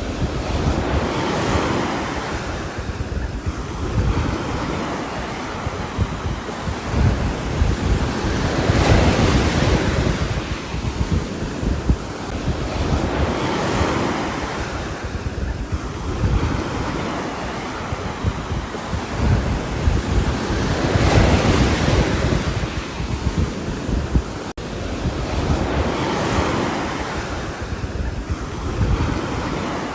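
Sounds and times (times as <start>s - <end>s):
wind gusts: 0.0s - 29.9s.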